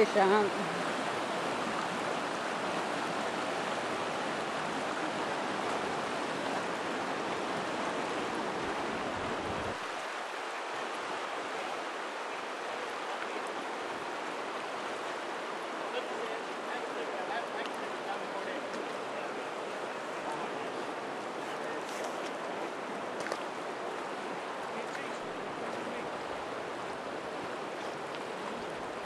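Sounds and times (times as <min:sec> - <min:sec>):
river rushing over rocks: 0:00.0 - 0:29.0.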